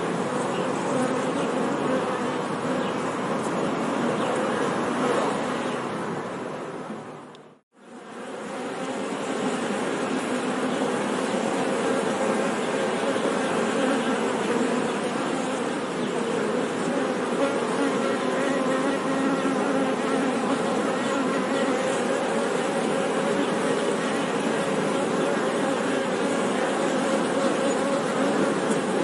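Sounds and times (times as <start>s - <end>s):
honey bees buzzing: 0.0s - 5.8s, 7.8s - 29.0s.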